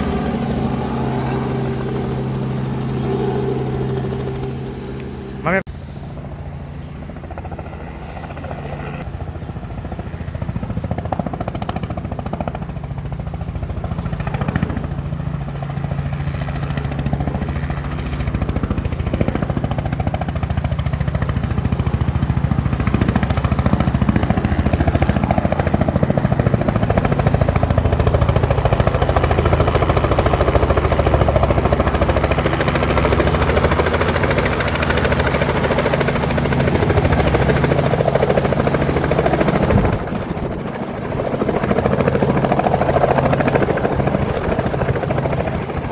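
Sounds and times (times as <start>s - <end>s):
helicopter engine and rotor: 0.0s - 45.9s.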